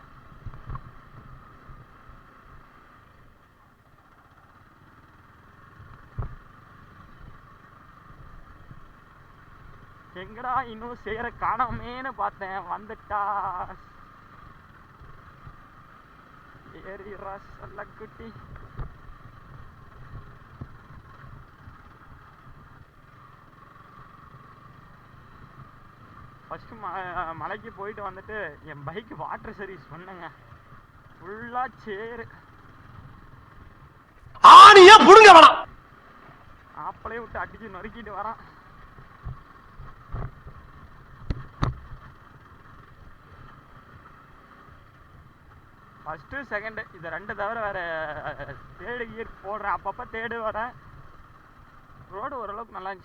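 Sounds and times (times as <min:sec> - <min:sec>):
motorcycle riding off-road: 0:00.0 - 0:34.4, 0:35.7 - 0:53.0.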